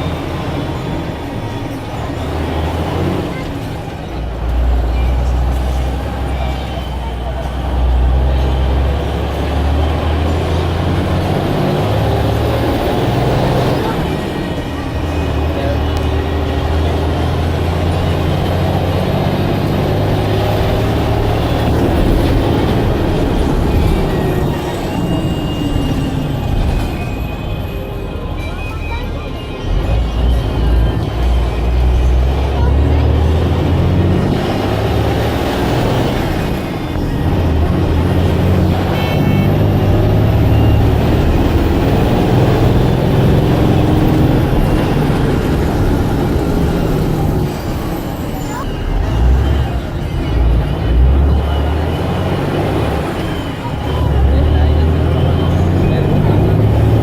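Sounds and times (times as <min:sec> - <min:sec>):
bus engine droning: 0:00.0 - 0:57.0
road rumble: 0:00.0 - 0:57.0.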